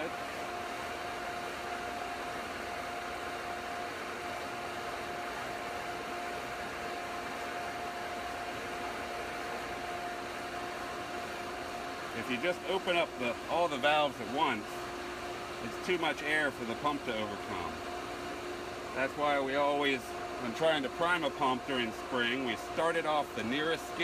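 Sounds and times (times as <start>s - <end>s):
pool pump motor whining: 0.0s - 24.0s.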